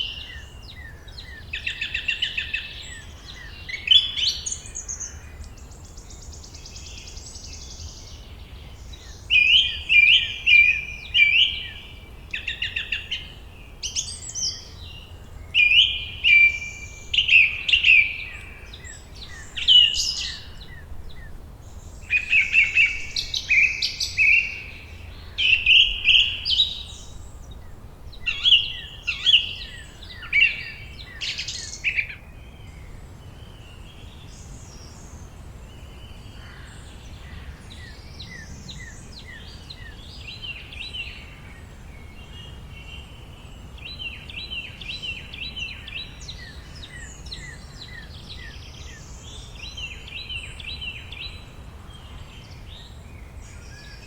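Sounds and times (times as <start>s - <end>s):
low background noise: 0.0s - 54.0s
songbirds singing and chirping: 0.0s - 54.0s.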